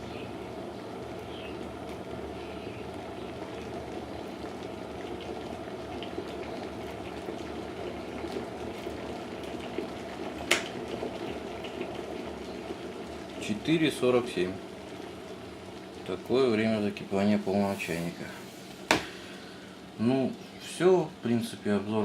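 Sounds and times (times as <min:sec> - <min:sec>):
kettle water boiling: 0:00.0 - 0:22.0.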